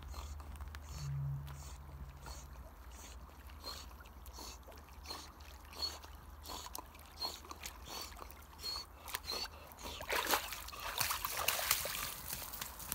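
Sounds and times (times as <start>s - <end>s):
low steady hum: 0.0s - 12.9s
dog paddling splashes: 2.5s - 12.9s.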